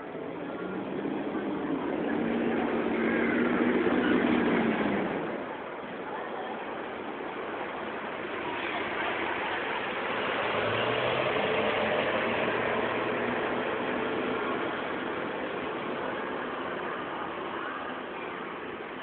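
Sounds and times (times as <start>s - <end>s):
street traffic: 0.0s - 19.0s
vehicle engine humming: 0.0s - 19.0s.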